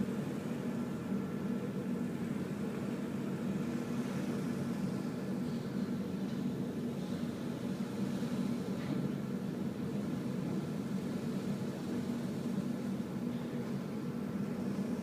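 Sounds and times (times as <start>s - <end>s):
faint steady whines: 0.0s - 15.0s
ship engine drone: 0.0s - 15.0s.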